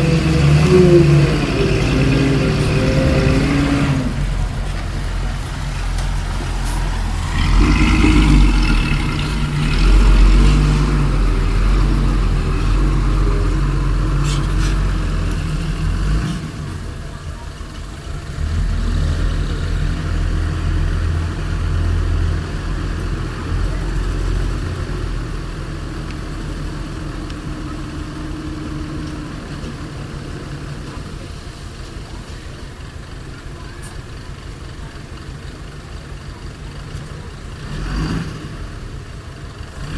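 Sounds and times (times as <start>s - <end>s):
heavy diesel engines revving: 0.0s - 39.9s.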